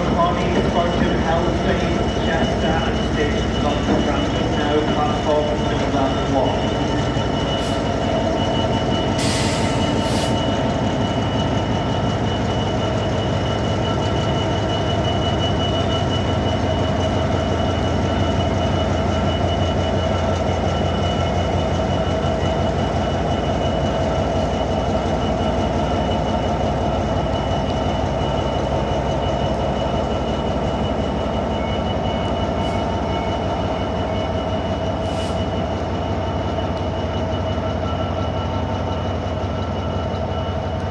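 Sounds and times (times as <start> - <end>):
train rumbling with whining tones: 0.0 - 40.9.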